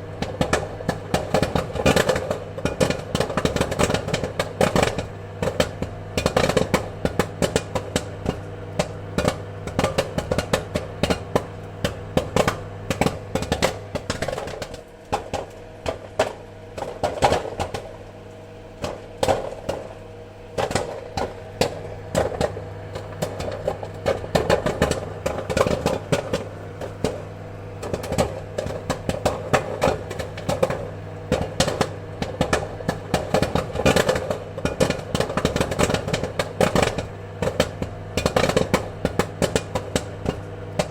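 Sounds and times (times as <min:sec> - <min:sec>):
popcorn popping: 0:00.0 - 0:40.9
steady low hum: 0:00.0 - 0:40.9.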